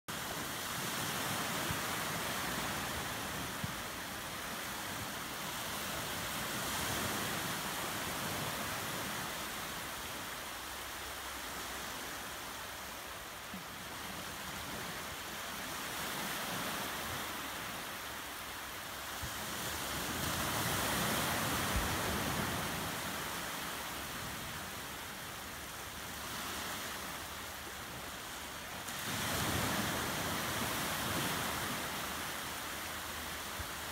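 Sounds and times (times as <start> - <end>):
small waves washing on shore: 0.1 - 33.9.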